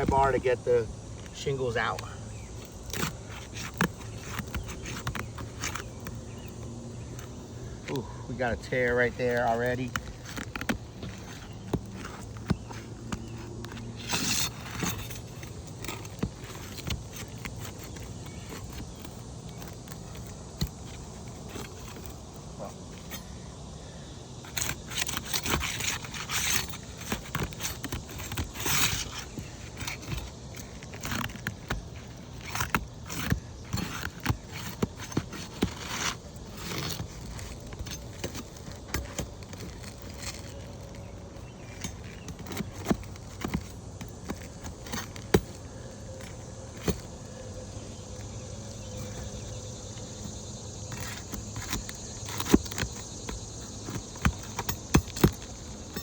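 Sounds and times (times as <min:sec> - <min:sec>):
pry bar scraping on roof shingles: 0:00.0 - 0:56.0.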